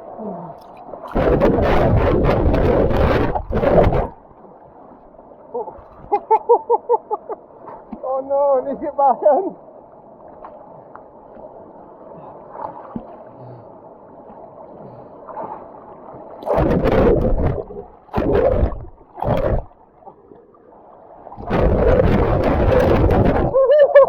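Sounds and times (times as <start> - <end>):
faint water lapping: 0.0 - 3.0, 3.6 - 24.0
water splashing around kayak: 0.0 - 9.0, 9.8 - 24.0.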